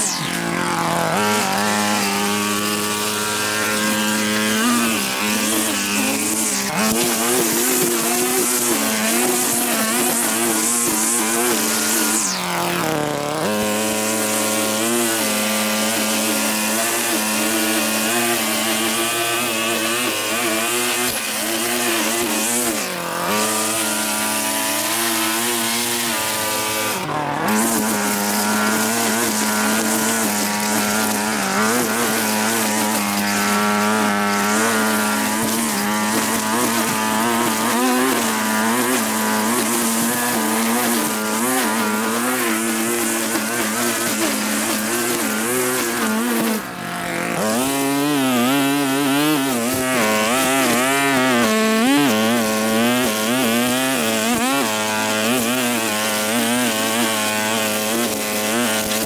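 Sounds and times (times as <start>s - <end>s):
small petrol engine running: 0.0s - 59.0s.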